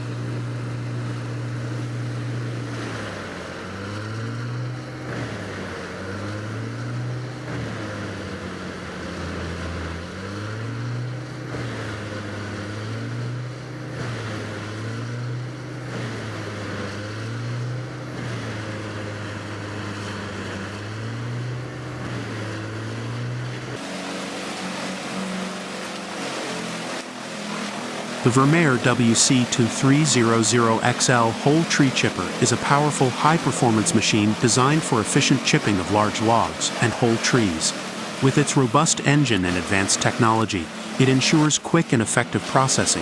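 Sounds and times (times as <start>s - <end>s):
heavy machine engine running: 0.0s - 43.0s.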